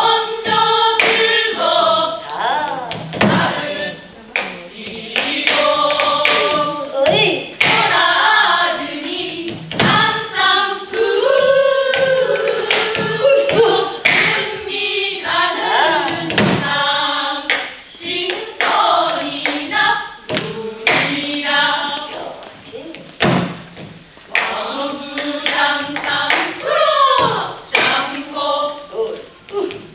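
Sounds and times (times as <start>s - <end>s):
drum strokes: 0.0s - 22.4s, 23.1s - 29.0s
women singing in unison: 0.0s - 22.7s, 24.3s - 29.9s.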